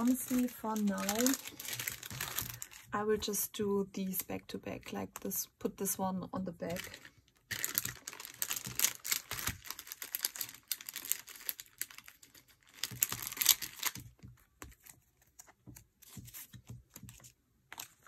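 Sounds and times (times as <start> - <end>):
plastic sleeves rustling: 0.0 - 18.0.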